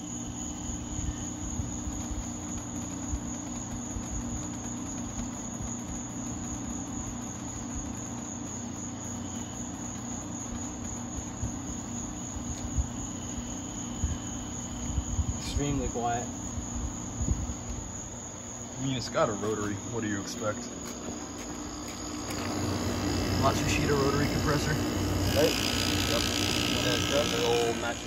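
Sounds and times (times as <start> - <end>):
air conditioner humming: 0.0 - 28.0.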